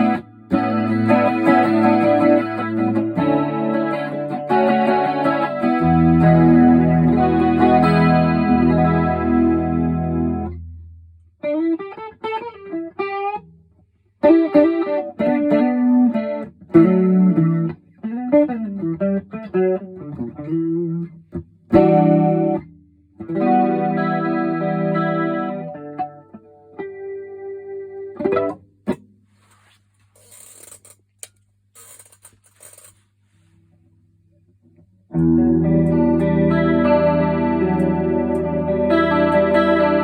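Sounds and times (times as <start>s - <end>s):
electric guitar with chorus effect: 0.0s - 29.0s, 35.1s - 40.0s.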